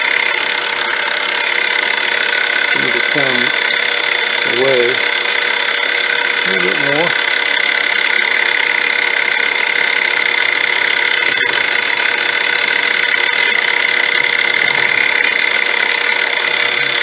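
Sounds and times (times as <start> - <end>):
milling machine whining: 0.0 - 17.0.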